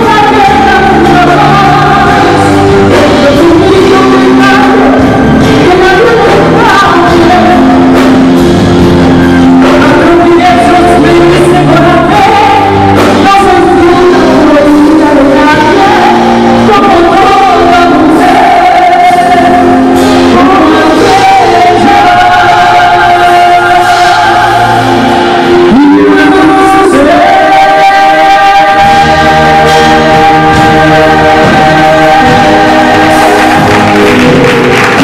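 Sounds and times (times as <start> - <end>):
instrumental accompaniment: 0.0 - 35.0
voices singing held notes: 0.0 - 35.0.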